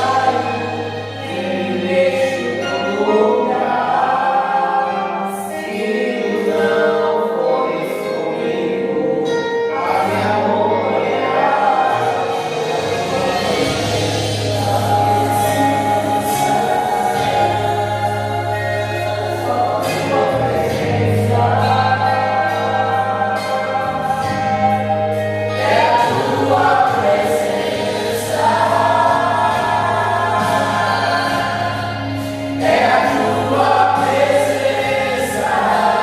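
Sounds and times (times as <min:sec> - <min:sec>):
choir singing a hymn: 0:00.0 - 0:36.0
instrumental accompaniment: 0:00.0 - 0:36.0
long held bass notes: 0:00.0 - 0:36.0.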